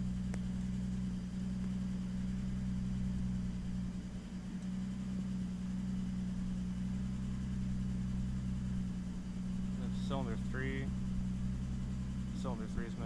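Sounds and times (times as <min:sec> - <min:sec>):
misfiring car engine idling: 0:00.0 - 0:13.0.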